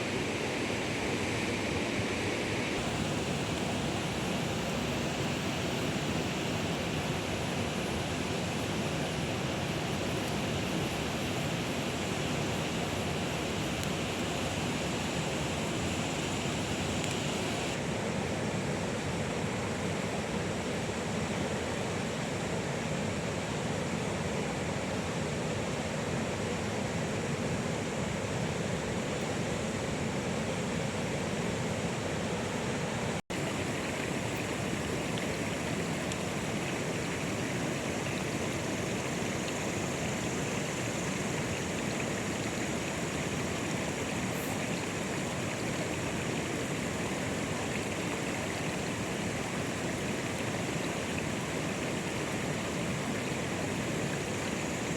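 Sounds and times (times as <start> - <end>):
steady water noise: 0.0 - 54.9.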